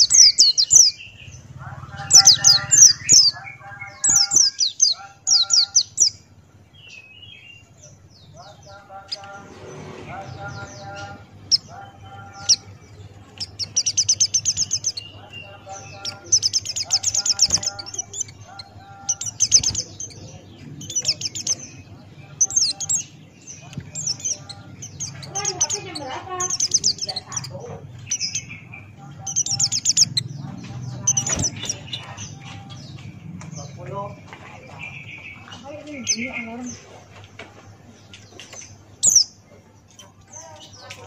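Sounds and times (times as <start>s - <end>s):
bird twittering: 0.0s - 36.8s.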